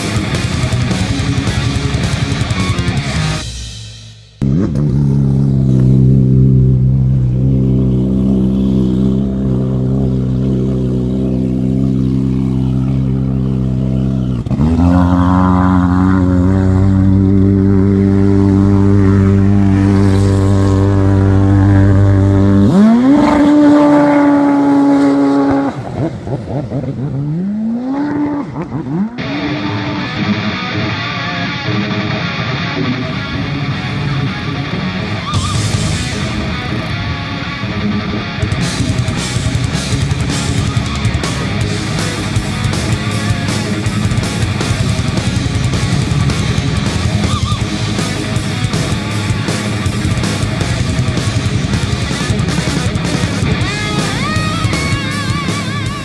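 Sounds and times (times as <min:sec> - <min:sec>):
rock music: 0:00.0 - 0:26.6, 0:28.3 - 0:56.0
jet ski engine droning: 0:04.4 - 0:30.3, 0:33.3 - 0:56.0.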